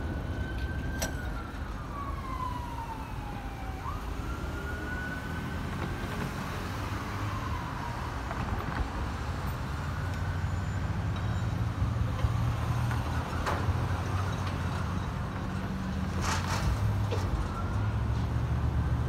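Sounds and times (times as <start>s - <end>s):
traffic engine rumble: 0.0s - 19.0s.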